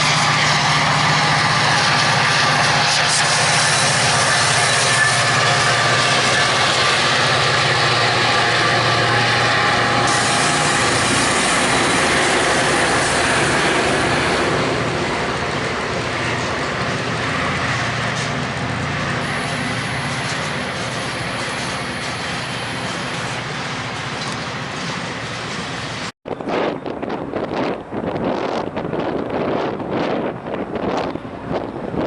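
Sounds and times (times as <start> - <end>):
train rumbling over track: 0.0 - 32.0.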